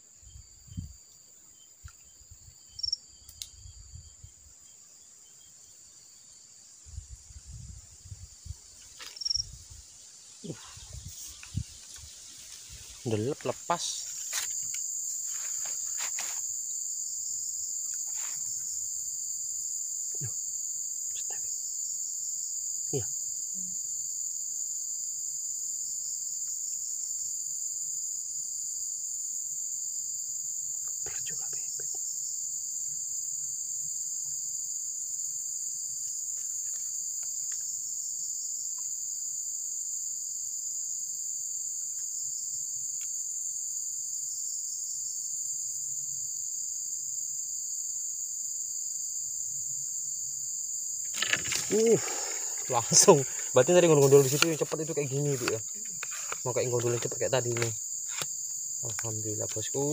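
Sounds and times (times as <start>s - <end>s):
insect chorus droning: 0.0s - 59.9s.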